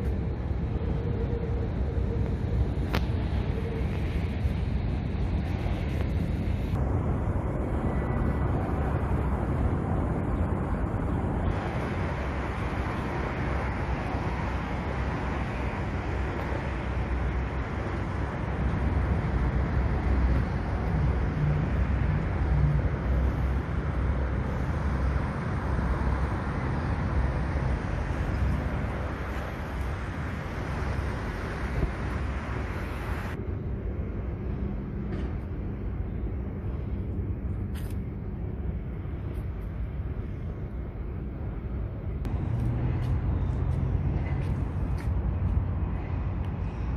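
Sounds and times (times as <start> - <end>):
low vehicle rumble: 0.0 - 46.9.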